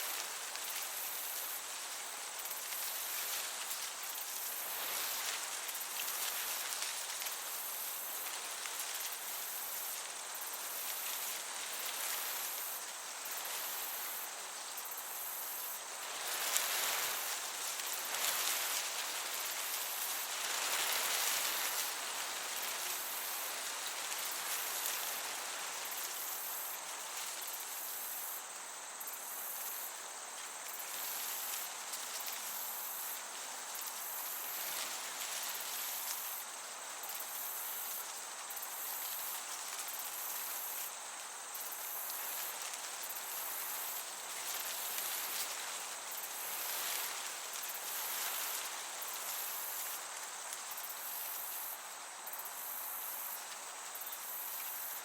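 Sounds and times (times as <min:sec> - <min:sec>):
crickets trilling: 0:00.0 - 0:55.0
gentle breeze hiss: 0:00.0 - 0:55.0
higher cricket chirping: 0:00.1 - 0:55.0.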